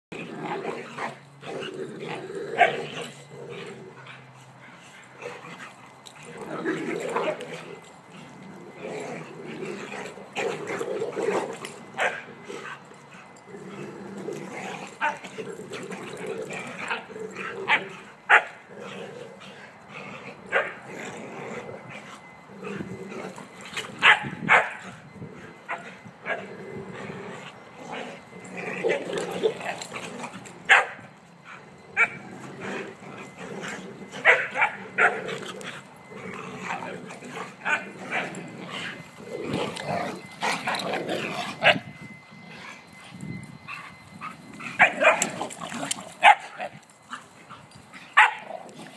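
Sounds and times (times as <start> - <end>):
dogs growling: 0.0 - 48.9
dogs barking and yipping: 0.1 - 48.9.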